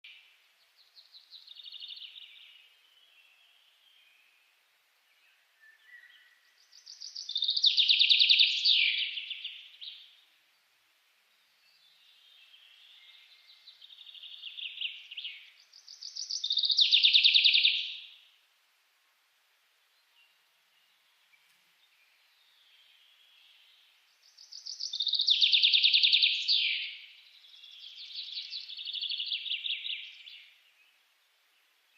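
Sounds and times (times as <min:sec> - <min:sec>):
songbird singing trills: 0:00.0 - 0:10.3, 0:11.3 - 0:18.4, 0:19.8 - 0:31.9.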